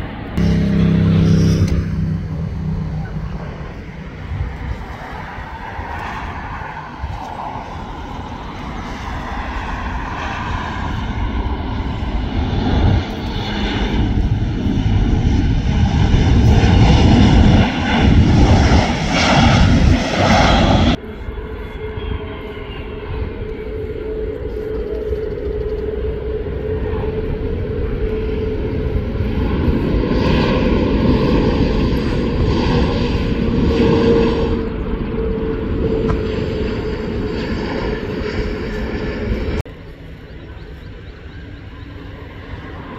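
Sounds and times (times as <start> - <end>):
jet airliner landing: 0.0 - 42.9.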